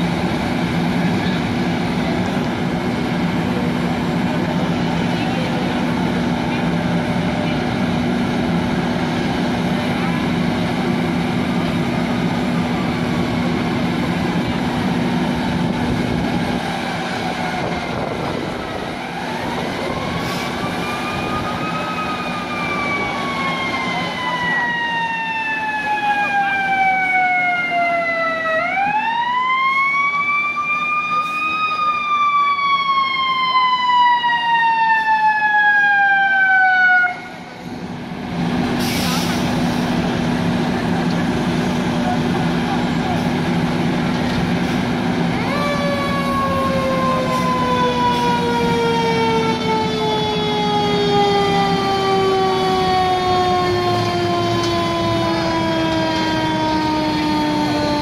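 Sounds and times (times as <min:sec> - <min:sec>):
fire engine siren wailing: 0:00.0 - 0:58.0
low engine drone: 0:00.0 - 0:58.0.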